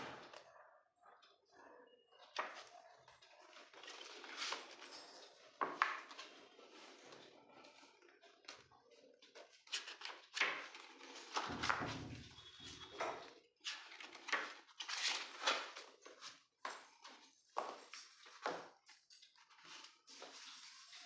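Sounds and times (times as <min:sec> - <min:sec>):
objects rustling and knocking: 0:02.5 - 0:07.9, 0:09.4 - 0:21.0.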